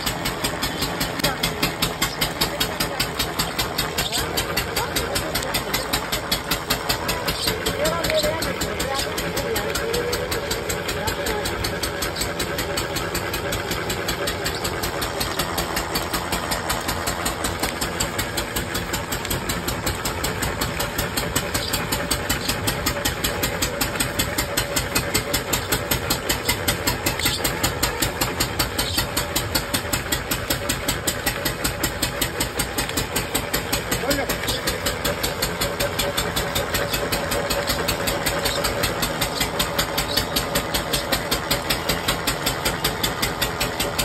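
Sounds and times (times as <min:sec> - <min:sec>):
noodle machine knocking: 0:00.0 - 0:44.0.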